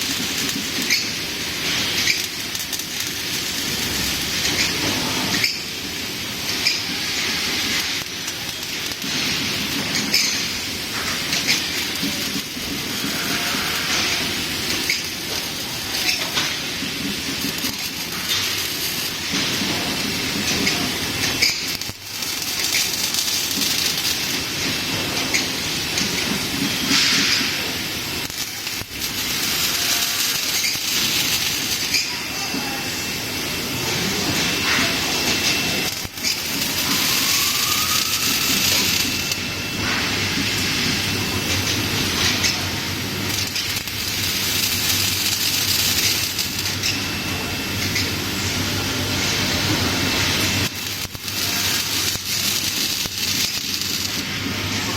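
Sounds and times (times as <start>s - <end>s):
laser welding machine hiss and rumble: 0.0s - 54.9s.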